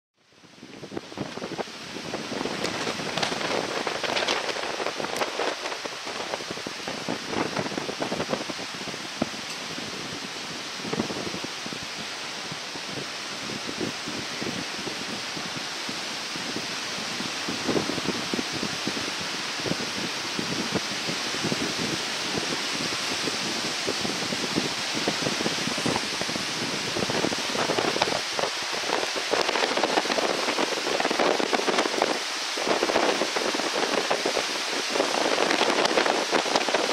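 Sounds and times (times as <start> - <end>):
river rushing: 0.2 - 36.9
wind buffeting microphone: 0.3 - 36.9.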